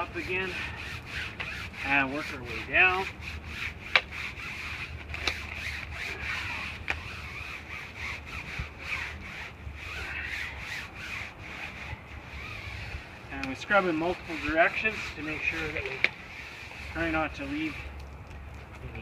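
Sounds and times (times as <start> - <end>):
brush scrubbing a screen: 0.0 - 18.0.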